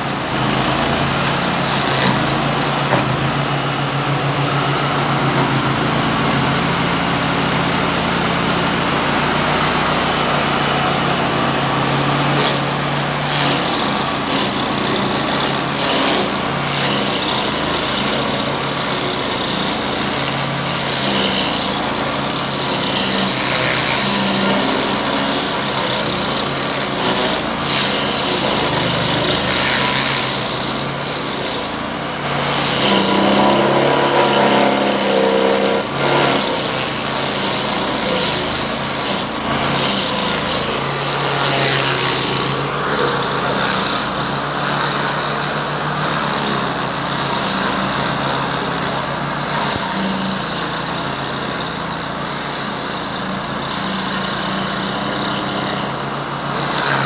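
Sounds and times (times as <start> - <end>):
stump grinder grinding: 0.0 - 57.0.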